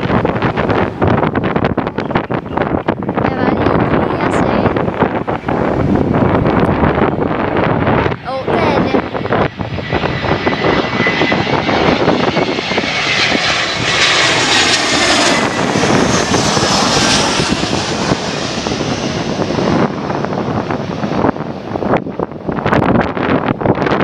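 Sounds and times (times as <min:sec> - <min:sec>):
engine whine falling in pitch: 0:00.0 - 0:23.6
jet engines passing close: 0:00.0 - 0:24.0.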